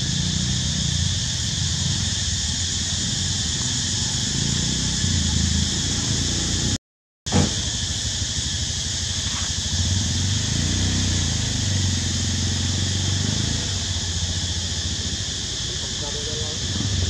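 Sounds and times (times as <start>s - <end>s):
engine running: 0.0s - 17.0s
high hiss: 0.0s - 17.0s.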